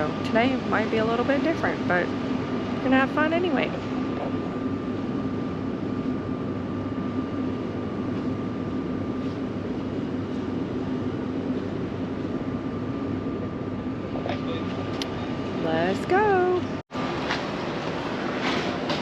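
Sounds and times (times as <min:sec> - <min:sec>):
high steady whine: 0:00.0 - 0:19.0
ship machinery drone: 0:00.0 - 0:19.0.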